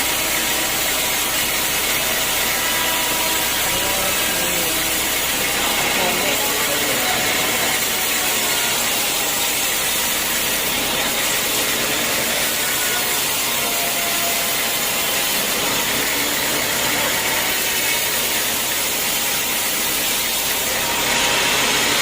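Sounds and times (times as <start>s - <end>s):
sawmill saw cutting log: 0.0s - 22.0s.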